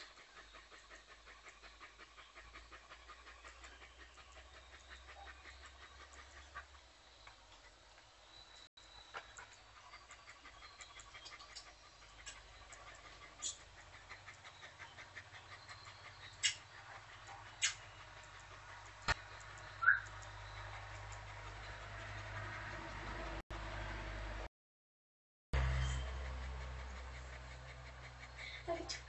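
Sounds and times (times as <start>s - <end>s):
dog panting: 0.0s - 23.4s, 25.6s - 29.0s.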